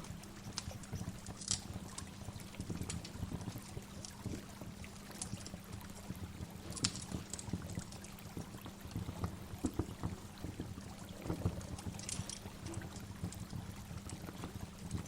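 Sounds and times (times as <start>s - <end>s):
small water splashes: 0.0s - 15.0s.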